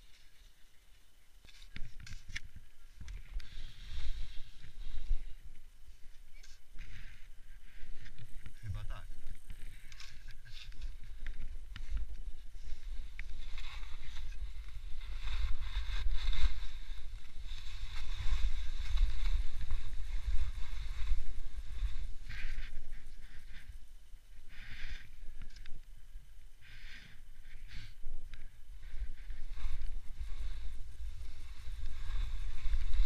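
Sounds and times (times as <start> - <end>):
skis scraping through snow: 1.5 - 25.2, 26.6 - 33.0
wind rumble on microphone: 1.7 - 33.0.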